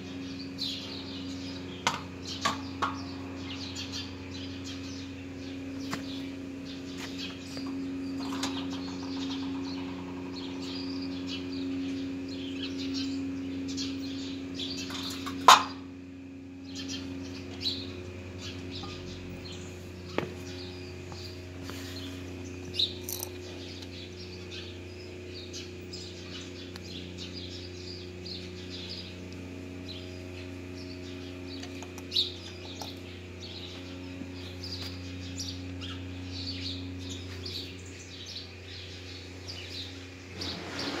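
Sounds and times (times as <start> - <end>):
small birds chirping: 0.0 - 41.0
steady low hum: 0.0 - 41.0.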